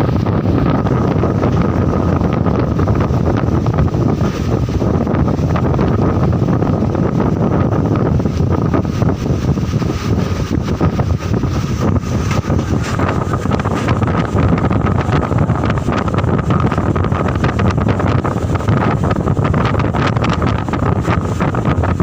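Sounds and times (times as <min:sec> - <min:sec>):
gusty wind on microphone: 0:00.0 - 0:22.0.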